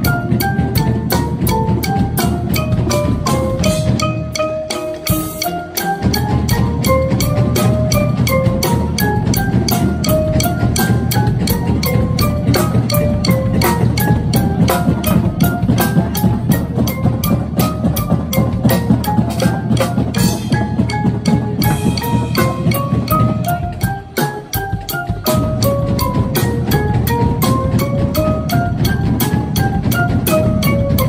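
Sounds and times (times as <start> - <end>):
marimbas and vibraphones playing: 0.0 - 31.0.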